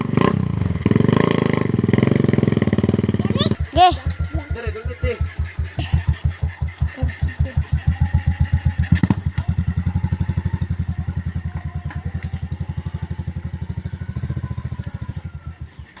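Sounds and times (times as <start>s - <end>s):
single-cylinder engine chugging: 0.0s - 16.0s.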